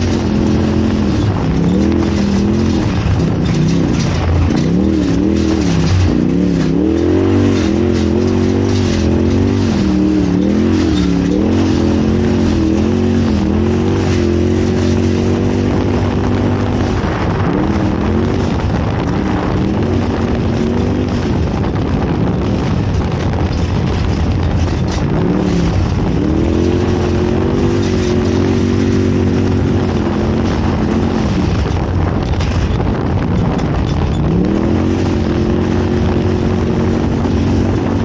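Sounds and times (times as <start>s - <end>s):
knocks and rattles: 0.0s - 38.0s
vehicle engine revving: 0.0s - 38.0s.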